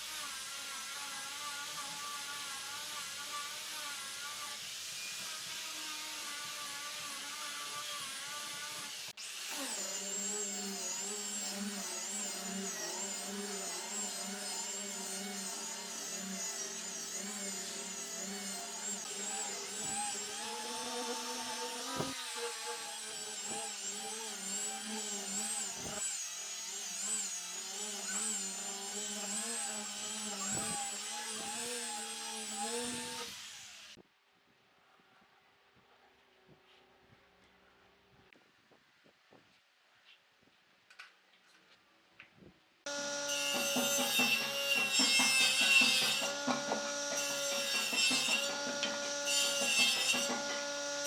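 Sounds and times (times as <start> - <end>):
power tool motor whining on wood: 0.0 - 34.0, 42.9 - 51.0.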